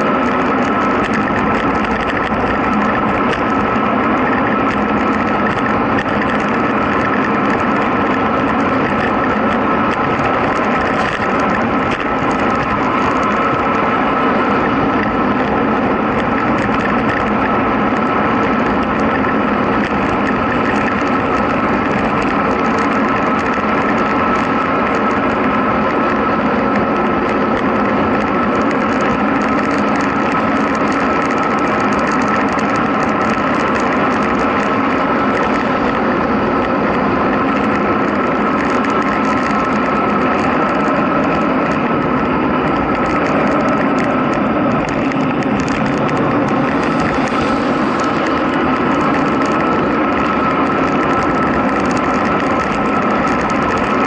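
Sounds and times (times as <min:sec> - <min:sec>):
bicycle tyre noise on asphalt: 0:00.0 - 0:54.0
steady high whine: 0:00.0 - 0:54.0
wind on microphone: 0:00.0 - 0:54.0.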